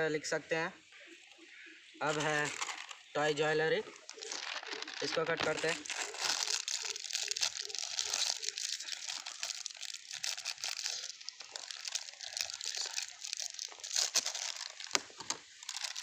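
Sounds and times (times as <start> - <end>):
foil packet crinkling: 2.0 - 16.0.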